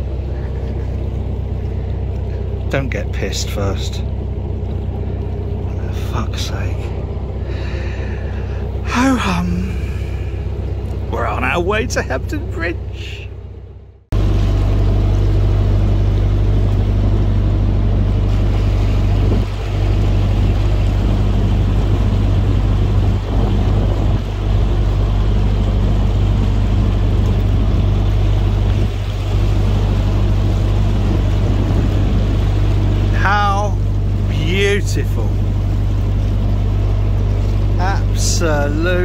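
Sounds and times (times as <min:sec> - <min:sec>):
boat diesel engine humming: 0:00.0 - 0:39.0.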